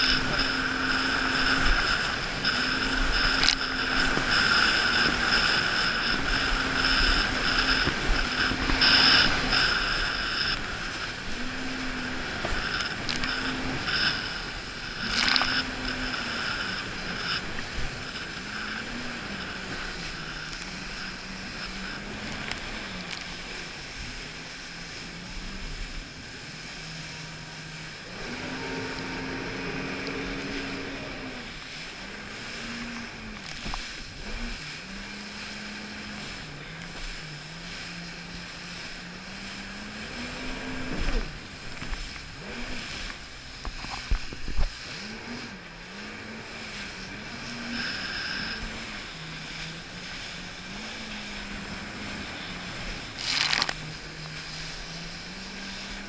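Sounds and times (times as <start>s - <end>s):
jet ski engine revving: 0.0s - 56.0s
rushing water: 0.0s - 56.0s
wind on microphone: 0.0s - 56.0s.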